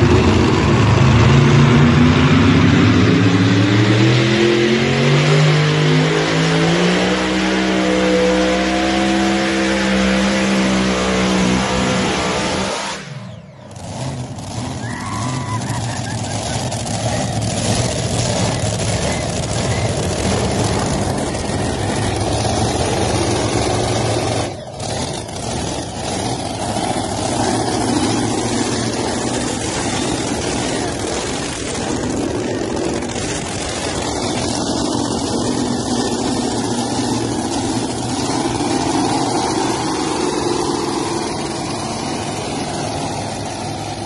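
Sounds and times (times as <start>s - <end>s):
tractor engines running loud: 0.0s - 44.0s.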